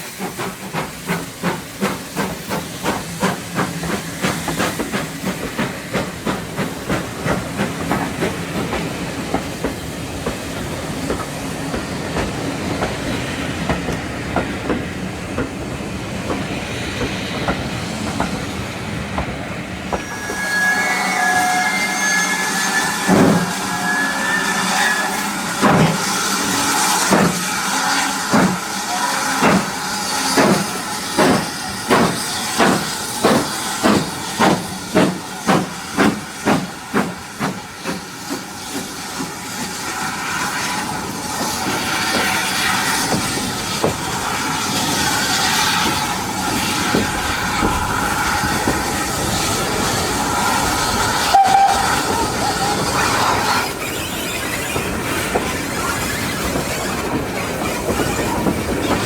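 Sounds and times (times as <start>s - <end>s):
hissing steam: 0.0s - 59.0s
steam locomotive chuffing: 0.0s - 59.0s
steam locomotive rolling rumble: 0.0s - 59.0s.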